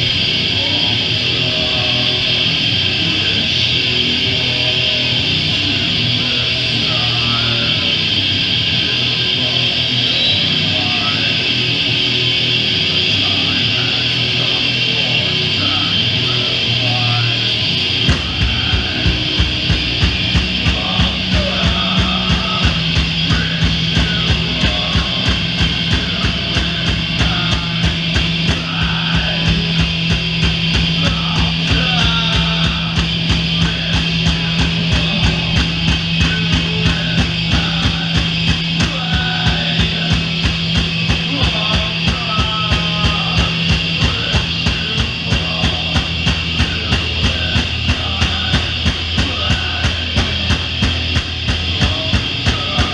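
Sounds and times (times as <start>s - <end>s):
low guitar and bass notes: 0.0s - 52.9s
steady drumbeat: 0.0s - 52.9s.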